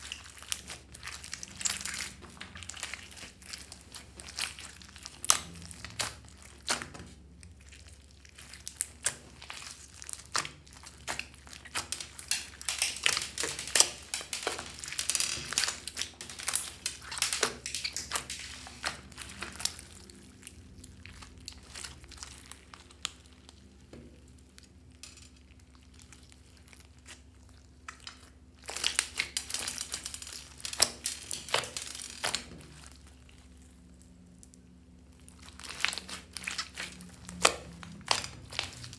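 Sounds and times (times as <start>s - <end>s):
slime popping and crackling: 0.0s - 38.9s.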